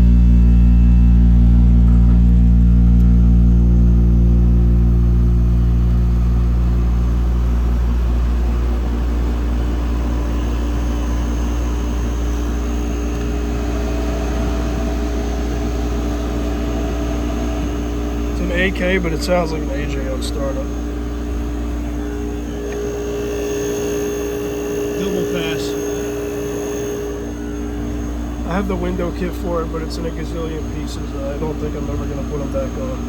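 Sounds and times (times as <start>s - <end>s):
air conditioner compressor hum: 0.0s - 33.0s
fan and airflow noise: 0.0s - 33.0s.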